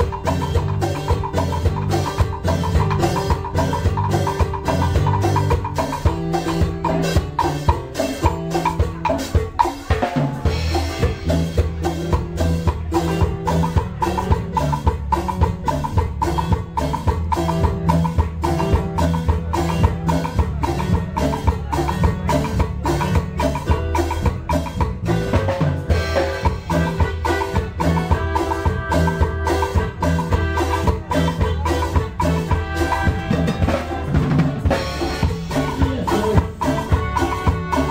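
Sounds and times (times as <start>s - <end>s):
drum kit dance beat: 0.0s - 37.9s
instrumental band music: 0.0s - 37.9s.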